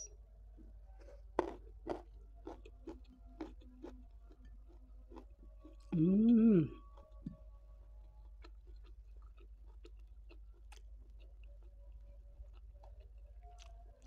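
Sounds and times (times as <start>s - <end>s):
soft chewing clicks: 0.6s - 6.0s, 6.6s - 14.0s.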